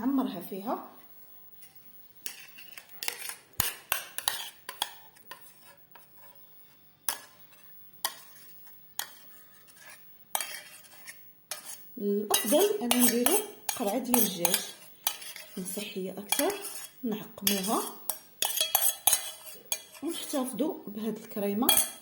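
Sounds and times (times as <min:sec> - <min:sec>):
metal spoon scraping a pot: 0:01.6 - 0:22.0.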